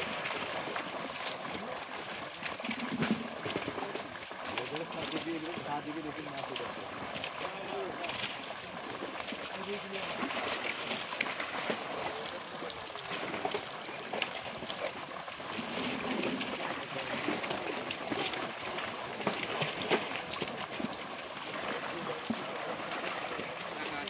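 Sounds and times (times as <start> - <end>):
fish splashing in water: 0.0 - 24.0.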